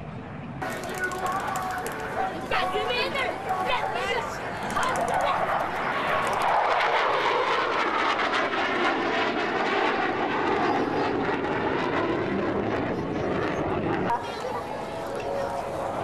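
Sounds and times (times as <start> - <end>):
jet plane flying past: 0.0 - 16.0.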